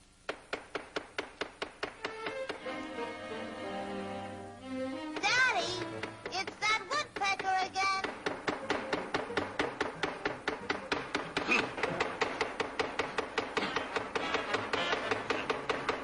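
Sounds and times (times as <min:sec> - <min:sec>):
cartoon woodpecker pecking wood: 0:00.2 - 0:02.8, 0:05.0 - 0:16.0.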